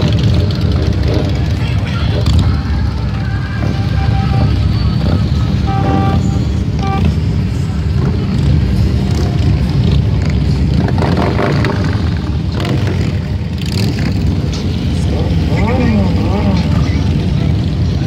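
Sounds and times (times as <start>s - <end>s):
motorcycles passing: 0.0s - 18.0s.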